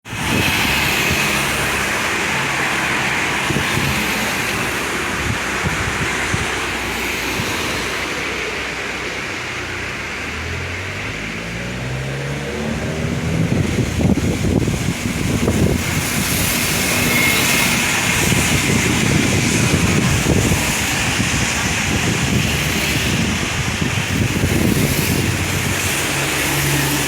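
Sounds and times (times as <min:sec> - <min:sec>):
traffic noise: 0:00.0 - 0:27.0.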